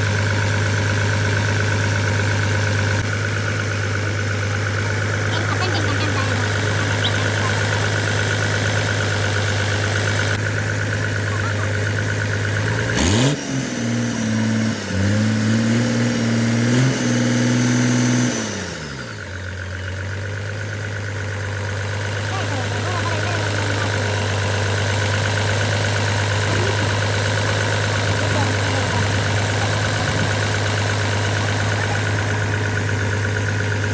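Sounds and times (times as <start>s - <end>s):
diesel engine idling and revving: 0.0s - 33.9s.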